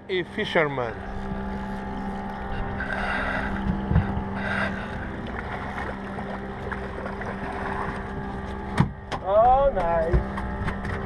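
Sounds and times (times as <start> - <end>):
outboard motor idling: 0.1 - 11.0.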